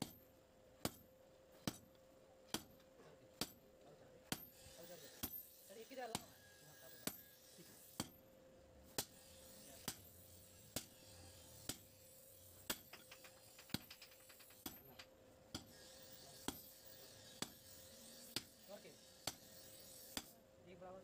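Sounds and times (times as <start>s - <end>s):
hammer striking steel on anvil: 0.0s - 8.3s, 8.9s - 13.9s, 14.6s - 20.4s.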